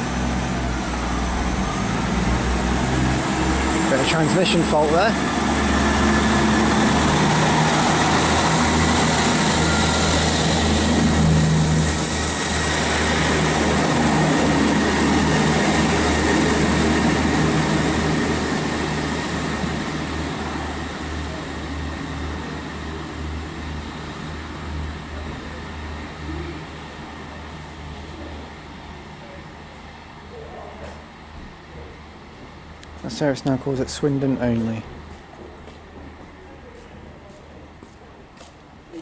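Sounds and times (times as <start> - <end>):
diesel train engines droning: 0.0 - 39.0.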